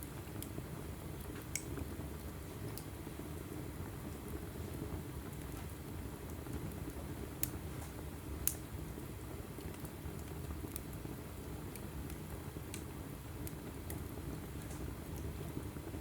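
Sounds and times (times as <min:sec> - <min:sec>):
low rumble of flames: 0:00.0 - 0:16.0
small fire crackles: 0:00.0 - 0:16.0.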